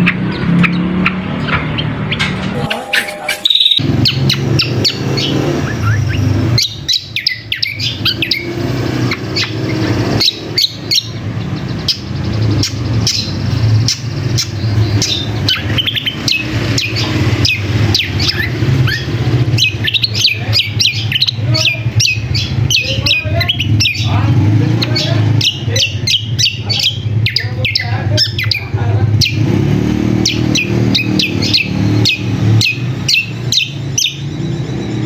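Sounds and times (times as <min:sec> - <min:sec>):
bird chirping rapidly: 0:00.0 - 0:35.0.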